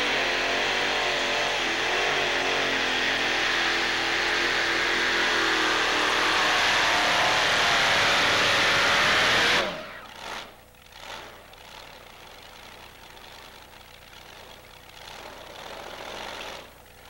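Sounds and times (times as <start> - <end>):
engines idling: 0.0 - 17.0
pulling tractor engines roaring: 0.0 - 17.0.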